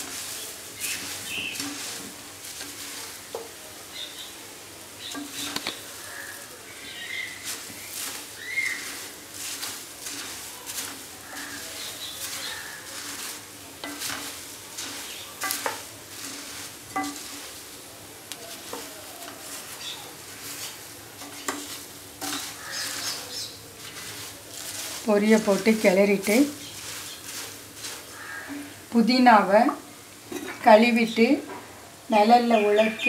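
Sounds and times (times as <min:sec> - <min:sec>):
spatula scraping grains in pan: 0:00.0 - 0:29.8
sizzle: 0:00.0 - 0:33.0.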